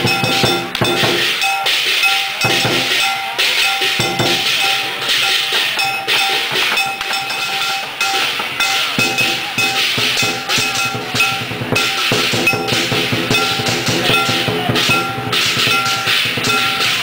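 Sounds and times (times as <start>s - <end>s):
cymbals clashing: 0.0s - 17.0s
drum strokes: 0.0s - 17.0s
ringing gong: 0.0s - 17.0s.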